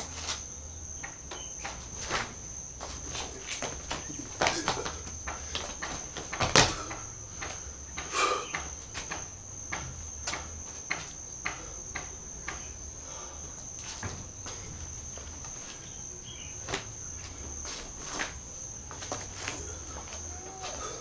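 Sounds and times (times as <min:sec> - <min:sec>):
high-pitched insect chirring: 0:00.0 - 0:21.0.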